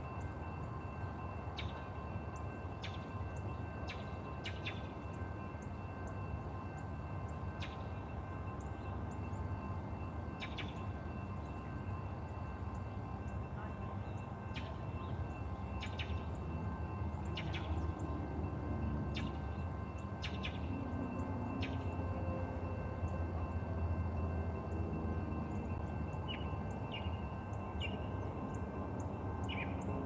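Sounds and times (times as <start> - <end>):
faint steady high tone: 0.0 - 30.0.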